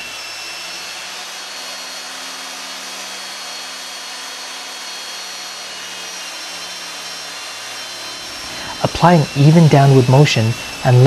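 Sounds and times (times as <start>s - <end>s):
electric drill boring into board: 0.0s - 11.0s.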